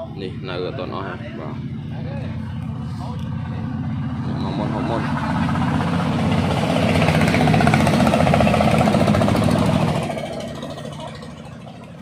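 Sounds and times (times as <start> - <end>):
vehicle engine chugging: 0.0 - 12.0.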